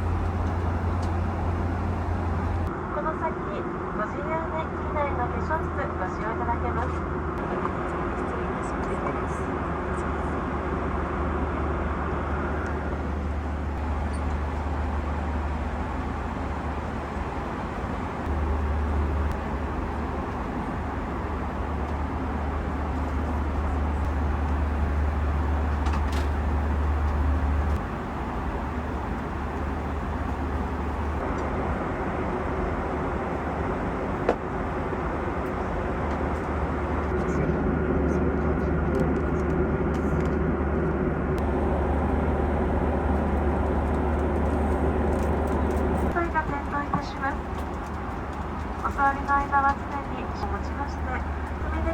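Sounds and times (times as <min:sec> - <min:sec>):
airliner cabin engine rumble: 0:00.0 - 0:02.7, 0:12.0 - 0:51.9
deep constant hum: 0:00.0 - 0:02.7, 0:12.2 - 0:51.9.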